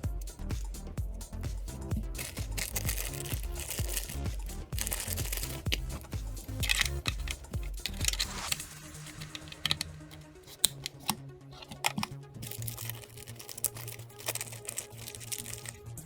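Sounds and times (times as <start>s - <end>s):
background music: 0.0s - 16.0s
plastic parts clicking and tapping: 1.6s - 15.9s.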